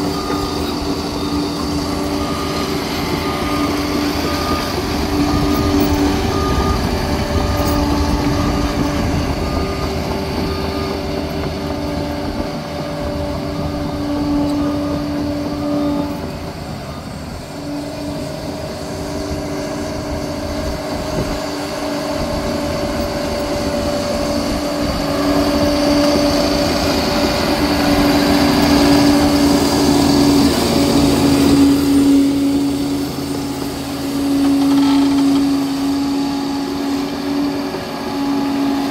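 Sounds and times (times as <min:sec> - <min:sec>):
dozer diesel engine working: 0:00.0 - 0:38.9.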